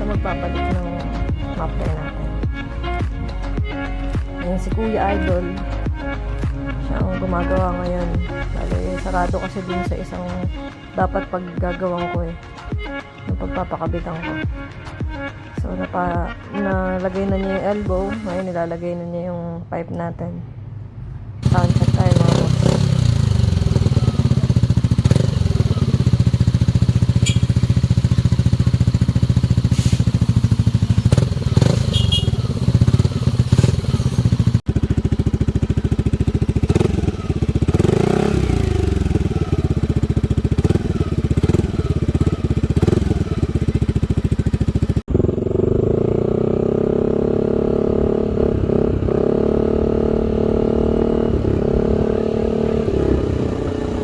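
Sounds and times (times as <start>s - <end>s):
scooter engine idling and revving: 0.0s - 18.5s, 21.4s - 54.0s.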